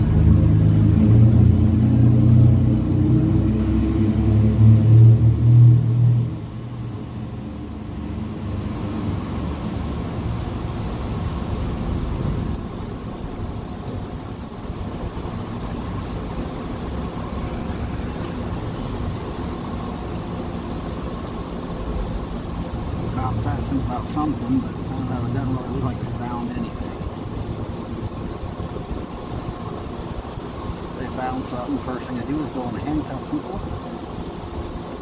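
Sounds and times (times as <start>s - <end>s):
street traffic hum: 0.0s - 35.0s
vehicle engine rumbling: 0.0s - 35.0s.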